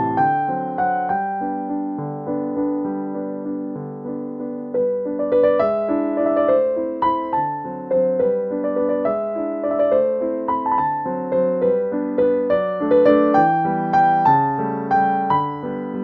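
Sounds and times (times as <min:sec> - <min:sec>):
gentle piano tune: 0:00.0 - 0:16.0.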